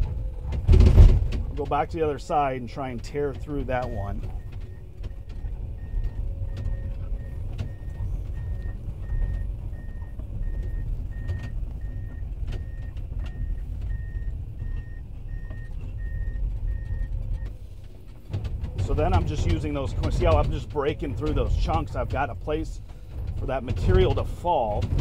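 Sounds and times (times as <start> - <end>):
excavator engine and hydraulics: 0.0 - 25.0.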